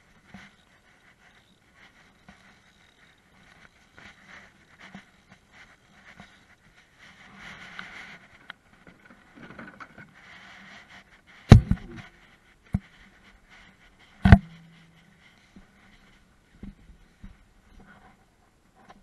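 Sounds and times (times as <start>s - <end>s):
faint handling rustle: 0.0s - 19.0s.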